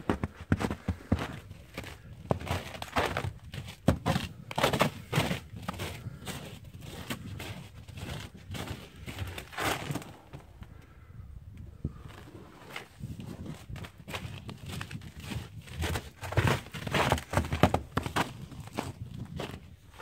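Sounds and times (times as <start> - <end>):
footsteps crunching through snow: 0.0 - 10.6, 12.0 - 20.0.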